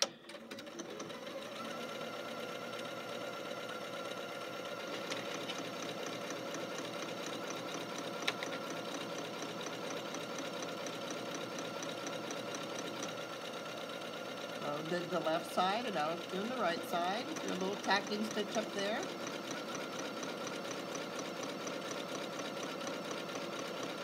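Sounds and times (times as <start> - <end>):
sewing machine motor hum: 0.0 - 24.0.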